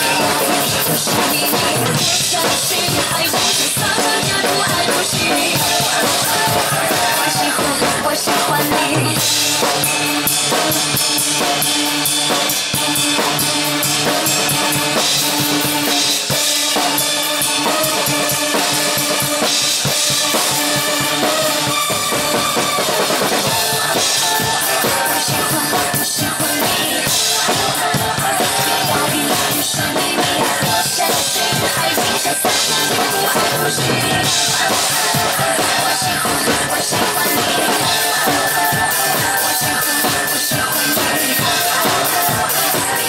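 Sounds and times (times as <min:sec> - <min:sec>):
drum kit playing: 0:00.0 - 0:43.0
pop backing track: 0:00.0 - 0:43.0.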